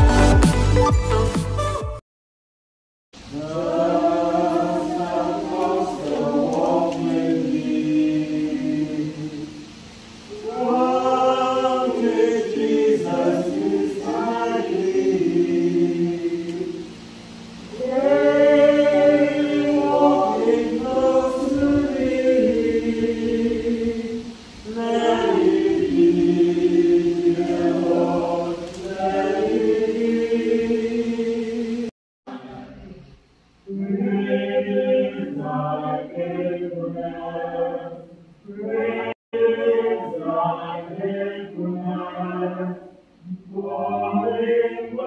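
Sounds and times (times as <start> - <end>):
group singing a hymn: 3.2 - 32.6, 33.6 - 45.0.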